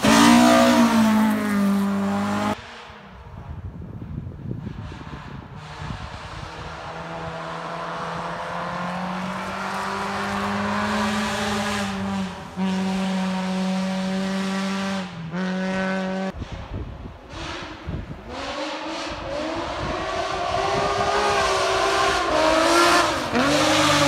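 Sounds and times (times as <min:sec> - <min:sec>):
rally car engine at high revs: 0:00.0 - 0:02.6, 0:05.0 - 0:16.4, 0:17.3 - 0:24.0.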